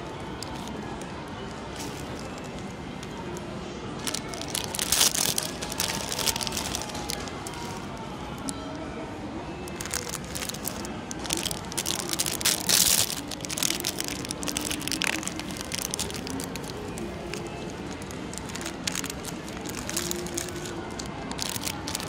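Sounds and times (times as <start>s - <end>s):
plastic wrappers crinkling: 0.1s - 3.2s, 4.0s - 8.0s, 9.7s - 22.0s.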